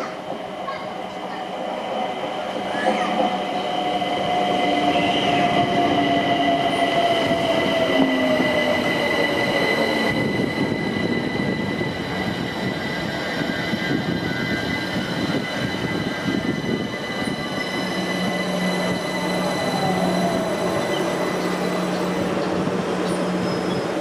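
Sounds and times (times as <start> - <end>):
train running past: 0.0 - 24.0.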